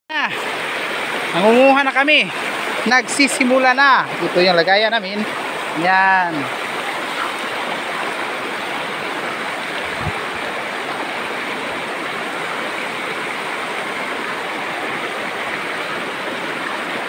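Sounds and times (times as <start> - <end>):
stream rushing over rocks: 0.1 - 17.0.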